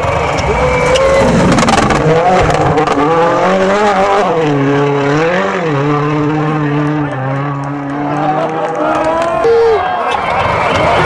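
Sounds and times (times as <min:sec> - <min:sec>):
engine crackles: 0:00.0 - 0:11.0
rally car engine at full throttle: 0:00.0 - 0:11.0.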